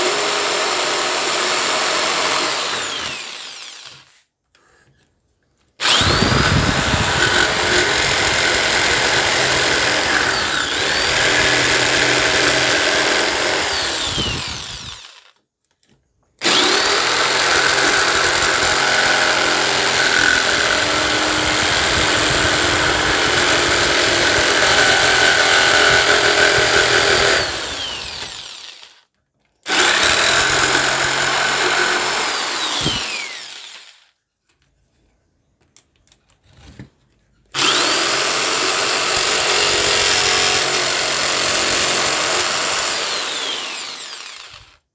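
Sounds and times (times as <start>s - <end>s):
electric jigsaw cutting wood: 0.0s - 4.2s, 5.8s - 15.4s, 16.4s - 34.1s, 37.6s - 44.9s.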